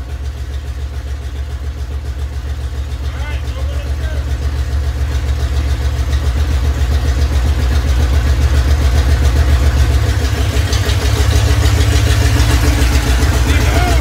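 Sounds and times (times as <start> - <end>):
loud engine running without mufflers: 0.0 - 14.0.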